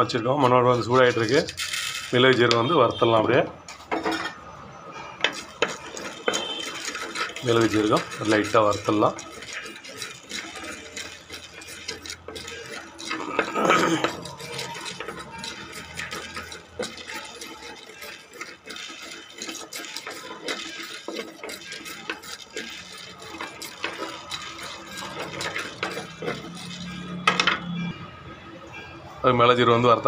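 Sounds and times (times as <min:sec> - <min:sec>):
spoon scraping in clay pot: 0:00.0 - 0:28.0
seeds rattling: 0:00.8 - 0:02.7, 0:05.2 - 0:27.7.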